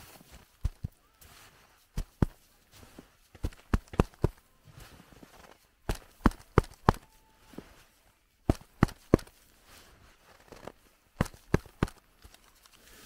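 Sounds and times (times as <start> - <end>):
gloved hands slapping snow: 0.0 - 7.8, 8.5 - 13.0.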